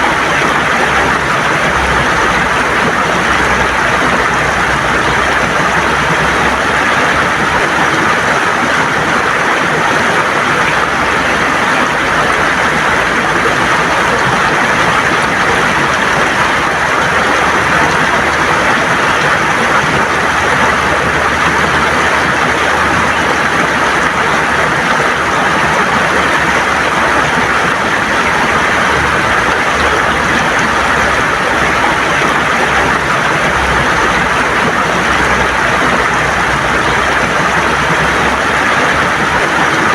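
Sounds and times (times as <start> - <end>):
river water gurgling over stones: 0.0 - 39.9.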